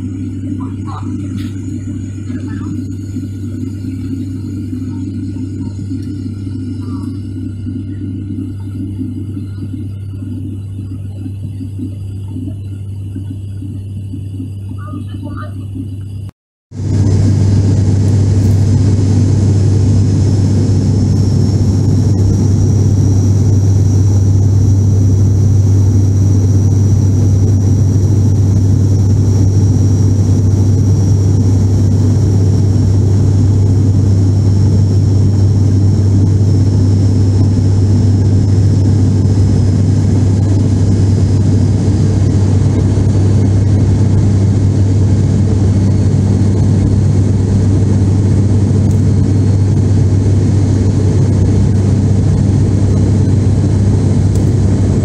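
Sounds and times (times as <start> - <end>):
faint high whine: 0.0 - 55.0
turboprop engine cabin drone: 0.0 - 55.0.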